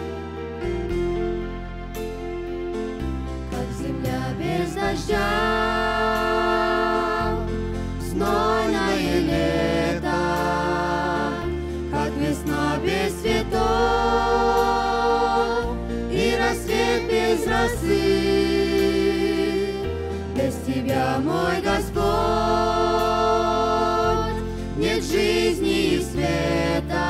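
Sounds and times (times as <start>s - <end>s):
slow worship song instrumental: 0.0s - 27.0s.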